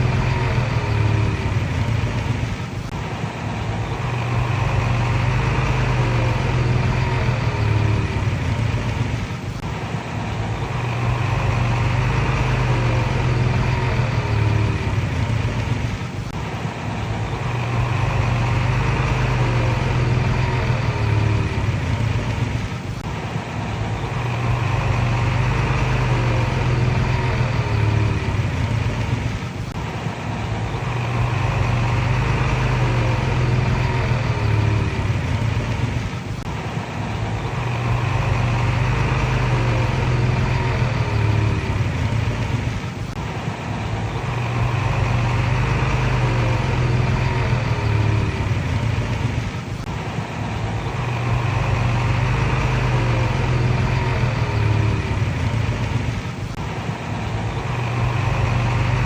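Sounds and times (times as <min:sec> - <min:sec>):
bulldozer diesel engine working: 0:00.0 - 0:59.0.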